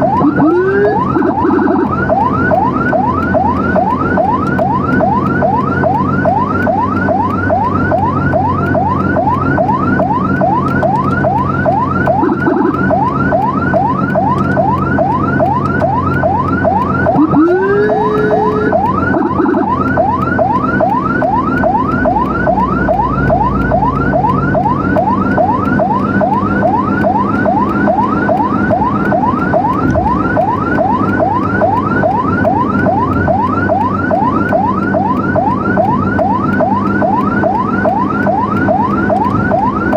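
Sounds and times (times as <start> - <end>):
engine and road noise: 0.0 - 39.9
lower siren tone winding up: 0.0 - 39.9
siren yelping: 0.0 - 39.9.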